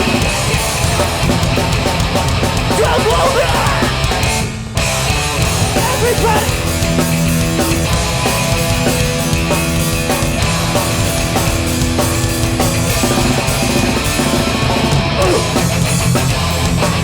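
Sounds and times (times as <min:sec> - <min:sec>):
distorted electric guitars: 0:00.0 - 0:17.0
drum kit: 0:00.0 - 0:17.0
punk band playing live: 0:00.0 - 0:17.0.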